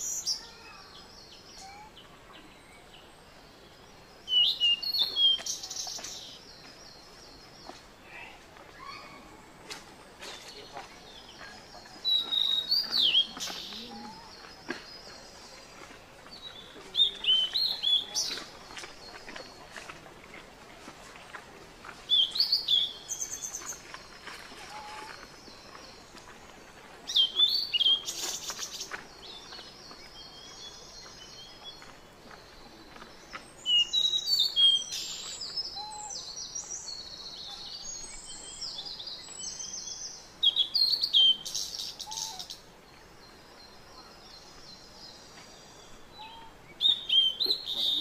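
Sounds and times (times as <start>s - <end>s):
birds chirping and singing: 0.0s - 9.3s, 10.2s - 19.9s, 27.1s - 48.0s.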